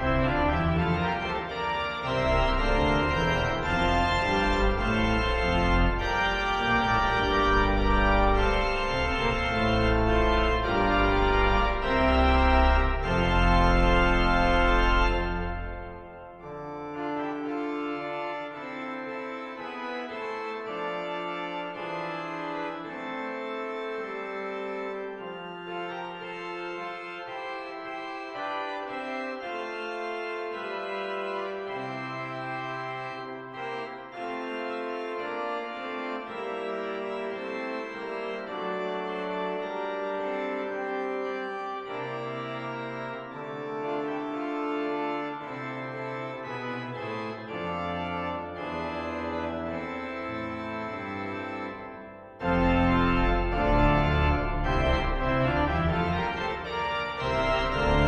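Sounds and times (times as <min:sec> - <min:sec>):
pipe organ music: 0:00.0 - 0:58.0.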